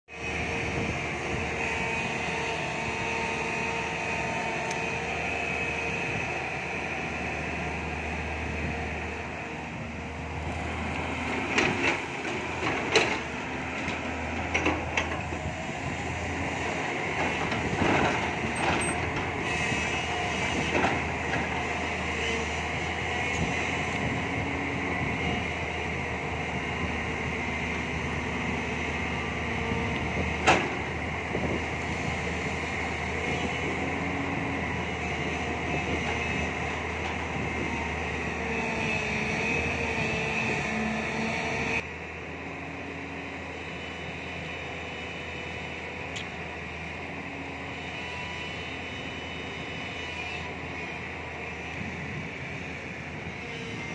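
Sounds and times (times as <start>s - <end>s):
diesel excavator engine running: 0.1s - 53.9s.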